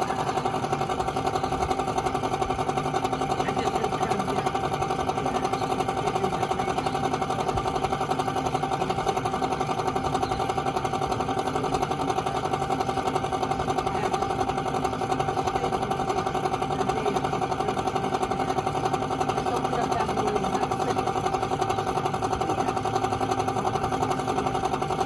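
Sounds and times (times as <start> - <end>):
rapid pulsing fan rattle: 0.0 - 25.0.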